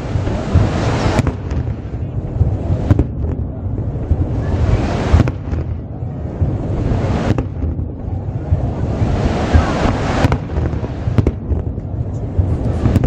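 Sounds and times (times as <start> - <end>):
fireworks bangs: 0.0 - 13.0
low rumble: 0.0 - 13.0.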